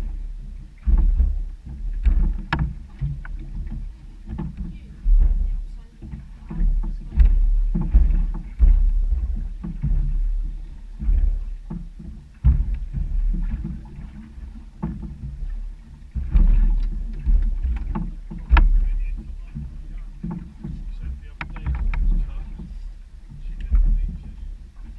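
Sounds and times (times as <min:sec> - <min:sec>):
waves slapping against boat hull: 0:00.0 - 0:24.9.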